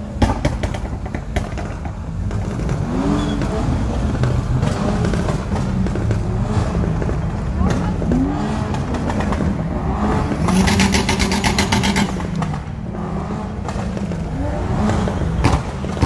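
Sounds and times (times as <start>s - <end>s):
car engines idling and revving: 0.0s - 16.0s.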